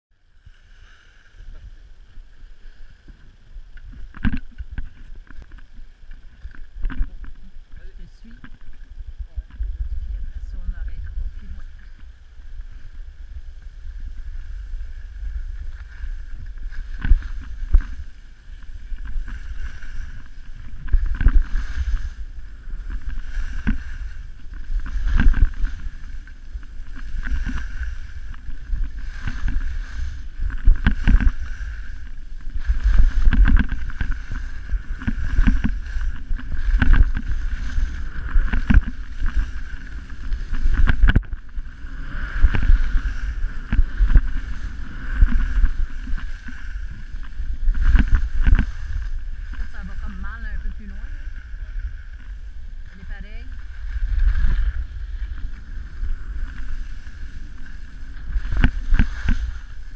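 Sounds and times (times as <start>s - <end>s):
skis scraping over snow: 0.4s - 59.9s
wind buffeting microphone: 1.4s - 59.9s.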